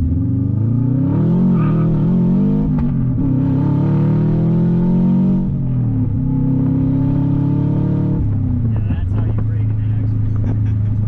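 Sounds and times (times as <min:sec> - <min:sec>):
loud car engine revving: 0:00.0 - 0:11.0.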